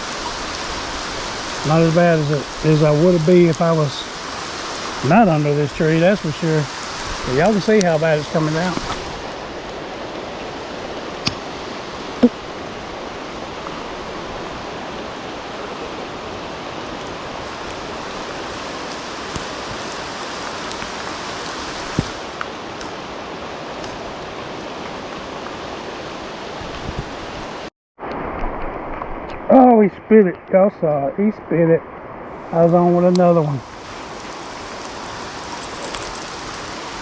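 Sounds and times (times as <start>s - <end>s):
heavy rain hissing: 0.0s - 27.7s, 30.9s - 37.0s.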